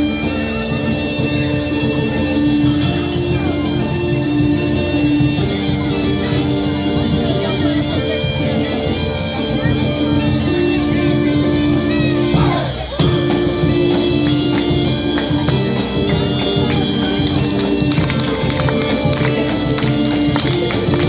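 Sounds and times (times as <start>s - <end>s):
bagpipes playing melody: 0.0s - 21.0s
drums beating: 0.0s - 21.0s.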